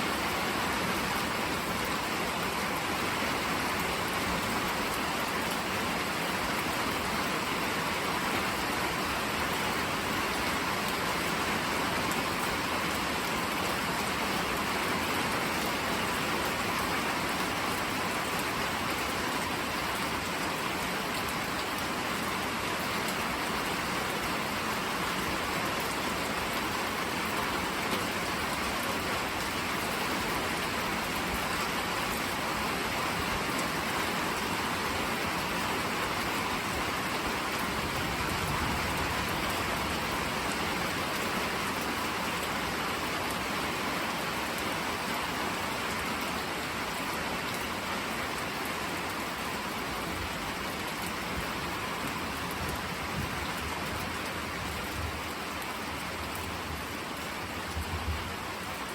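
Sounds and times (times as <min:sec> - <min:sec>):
steady rain hissing: 0:00.0 - 0:58.9.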